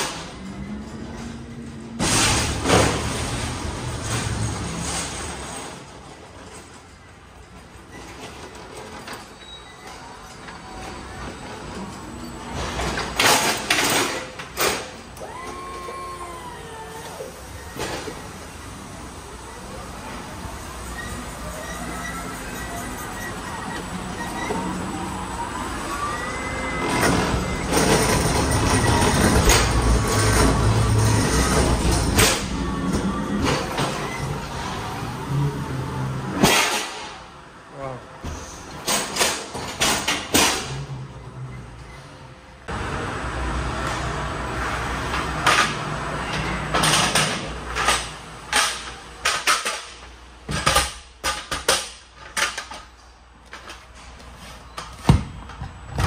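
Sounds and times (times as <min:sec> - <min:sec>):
heavy vehicle engine rumbling: 0:00.0 - 0:51.2.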